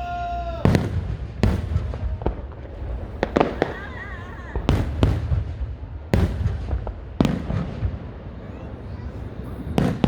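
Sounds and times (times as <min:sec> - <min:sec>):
fireworks bursting with echoes: 0:00.0 - 0:10.0.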